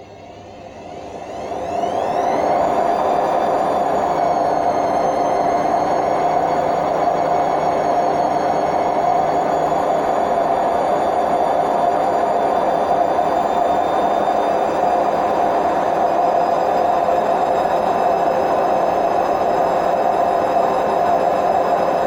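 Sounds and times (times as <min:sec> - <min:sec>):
washing machine spinning: 0:00.6 - 0:22.0.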